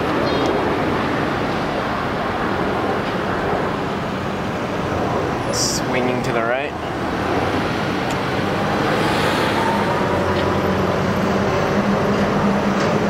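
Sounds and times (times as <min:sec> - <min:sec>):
engine low hum: 0:00.0 - 0:13.0
road traffic noise: 0:00.0 - 0:13.0.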